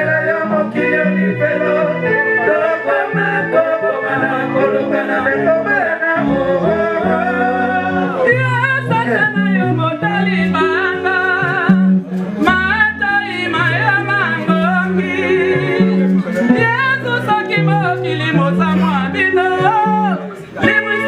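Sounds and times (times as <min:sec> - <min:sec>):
bass notes: 0:00.0 - 0:21.0
electric guitar: 0:00.0 - 0:21.0
keyboard: 0:00.0 - 0:21.0
man singing with vibrato: 0:00.0 - 0:21.0.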